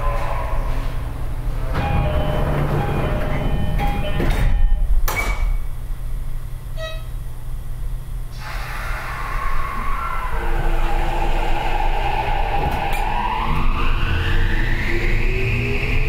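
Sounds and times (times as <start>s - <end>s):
train running noise: 0.0s - 6.1s, 8.4s - 16.0s.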